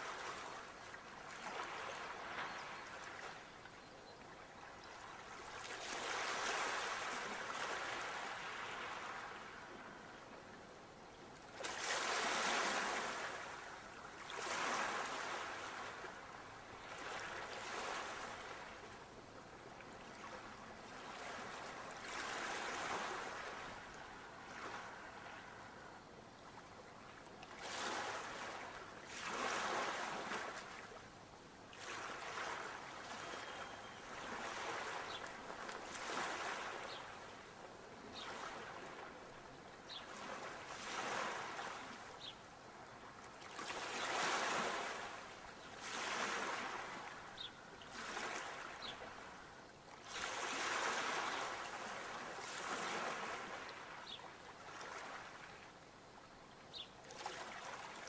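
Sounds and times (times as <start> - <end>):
sea waves breaking on shore: 0.0 - 3.7, 4.9 - 10.1, 11.4 - 31.0, 31.7 - 55.8, 56.7 - 58.0.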